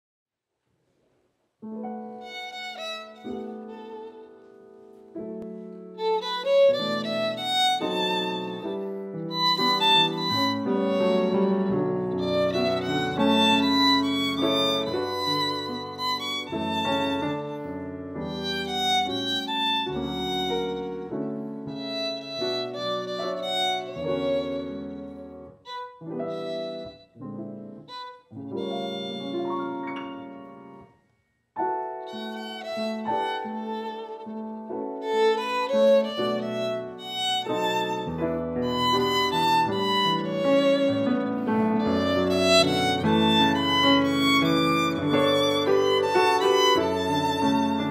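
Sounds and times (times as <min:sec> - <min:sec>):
violin melody: 0:01.6 - 0:31.0, 0:31.7 - 0:47.9
piano chords: 0:01.6 - 0:47.9.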